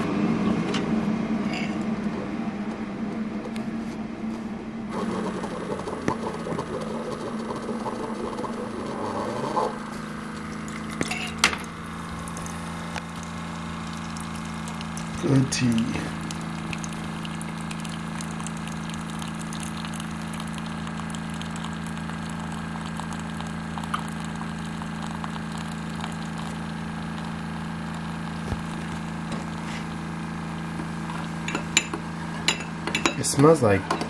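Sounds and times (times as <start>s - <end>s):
kettle humming and hissing: 0.0s - 34.0s.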